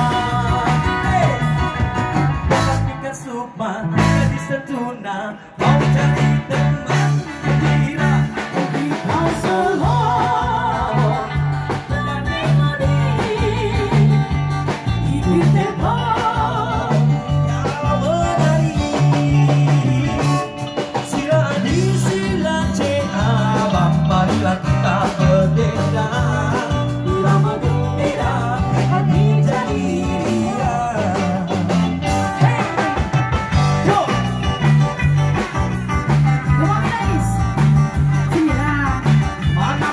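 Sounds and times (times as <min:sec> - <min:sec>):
person singing into microphone: 0:00.0 - 0:01.8, 0:02.5 - 0:33.0, 0:36.5 - 0:39.9
live band playing: 0:00.0 - 0:39.9.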